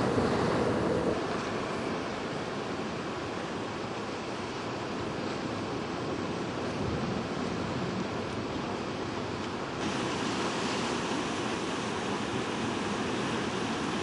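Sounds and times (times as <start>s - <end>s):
surf washing against rocks: 0.0s - 14.0s
wind buffeting microphone: 0.0s - 14.0s.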